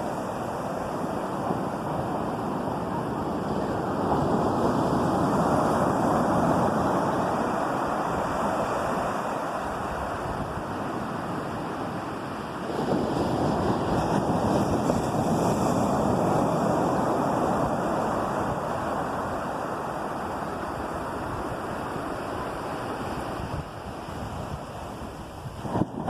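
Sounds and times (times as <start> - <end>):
sea waves on a shore: 0.0 - 26.0.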